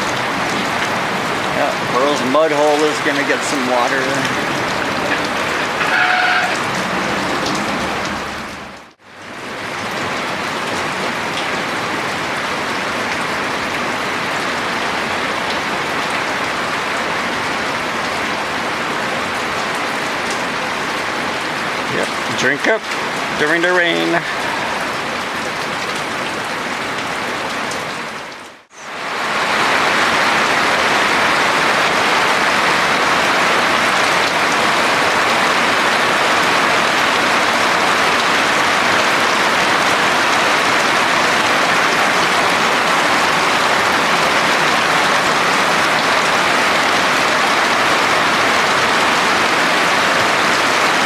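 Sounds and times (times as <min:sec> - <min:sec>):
steady rain hiss: 0:00.0 - 0:51.0.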